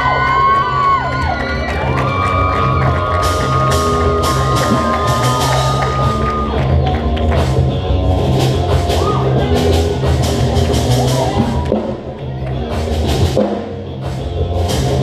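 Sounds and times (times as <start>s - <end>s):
drum-kit beat: 0.0s - 15.0s
live band music: 1.7s - 15.0s.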